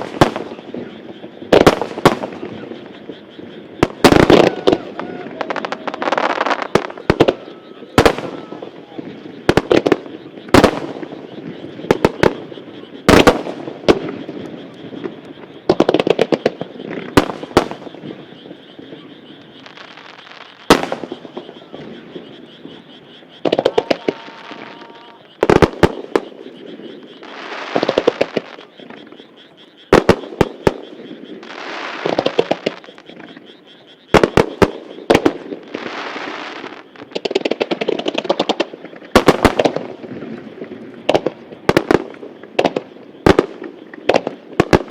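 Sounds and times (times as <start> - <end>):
firework shells bursting with bangs: 0.0 - 3.2, 3.8 - 18.2, 18.8 - 22.8, 23.4 - 26.5, 27.2 - 29.0, 29.9 - 33.3, 34.1 - 44.9
hissing crackle of fireworks: 0.0 - 33.4, 34.1 - 44.9.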